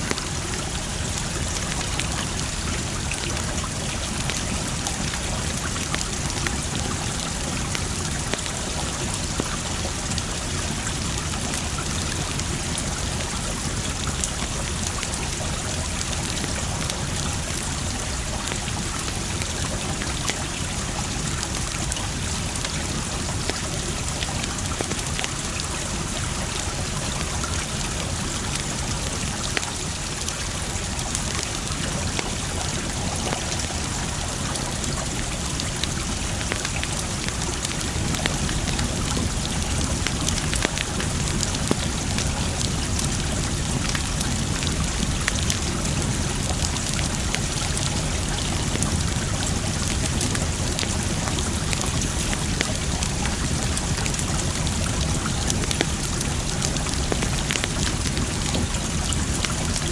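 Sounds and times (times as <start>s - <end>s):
flowing water: 0.0s - 59.9s
wood fire crackling: 0.0s - 59.9s.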